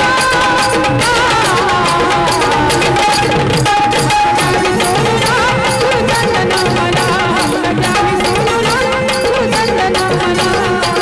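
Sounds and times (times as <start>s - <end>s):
quick drum rhythm: 0.0s - 11.0s.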